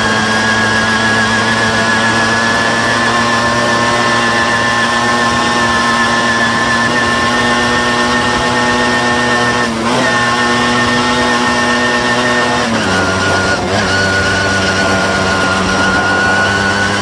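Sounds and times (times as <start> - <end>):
moped engine at high revs: 0.0 - 17.0.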